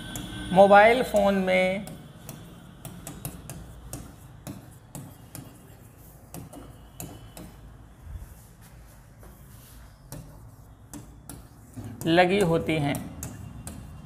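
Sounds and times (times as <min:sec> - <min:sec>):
marker writing on board: 0:00.1 - 0:14.0.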